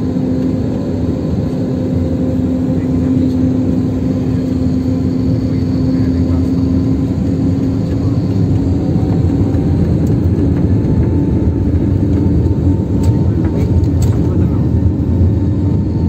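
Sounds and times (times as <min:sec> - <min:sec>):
jet engine hum: 0:00.0 - 0:16.0
plane rumbling on ground: 0:00.0 - 0:16.0.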